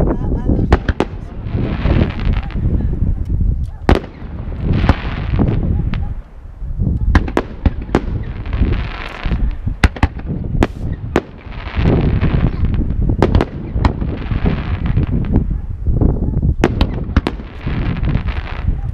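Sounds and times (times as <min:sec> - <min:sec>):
fireworks banging: 0:00.6 - 0:03.2, 0:03.8 - 0:06.4, 0:07.1 - 0:15.6, 0:16.6 - 0:18.8.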